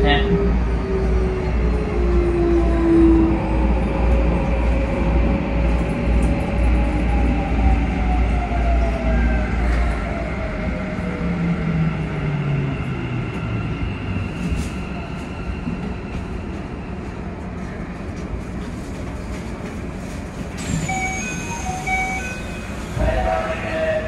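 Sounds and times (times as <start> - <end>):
train inverter whine: 0.0 - 24.0
train running noise: 0.0 - 24.0.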